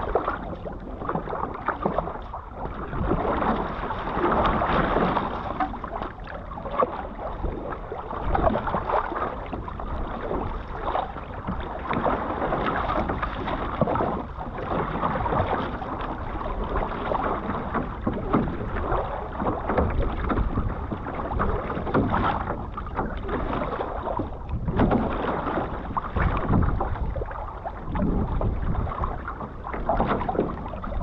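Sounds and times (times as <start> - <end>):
paddle splashing in water: 0.0 - 31.0
water splashing around canoe: 0.0 - 31.0
wind rumble on microphone: 0.0 - 31.0.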